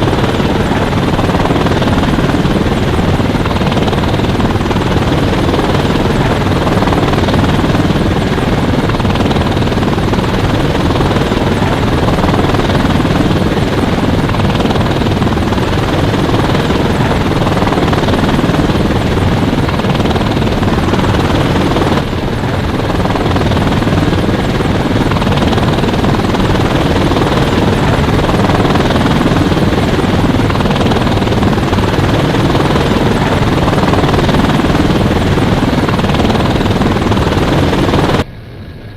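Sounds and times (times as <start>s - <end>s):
helicopter rotor and engine: 0.0s - 38.8s.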